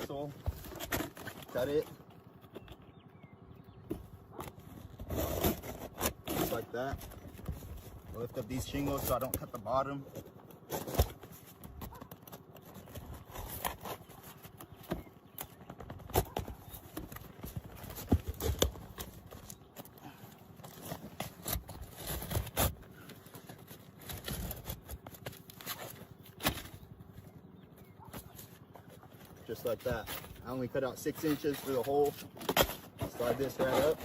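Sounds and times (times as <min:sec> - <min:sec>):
knocks and scrapes on shingle roof: 0:00.0 - 0:03.1, 0:03.7 - 0:34.0.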